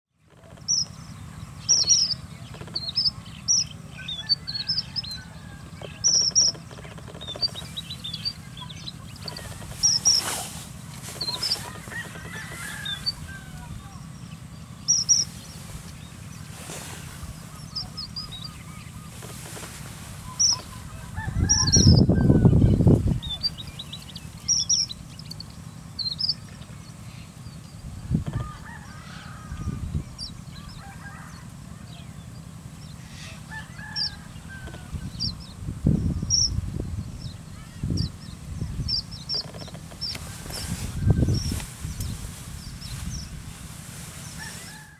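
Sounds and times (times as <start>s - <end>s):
steady low hum: 0.1s - 44.9s
finch chirping: 0.5s - 10.4s, 11.0s - 19.5s, 20.2s - 28.6s, 29.5s - 43.4s.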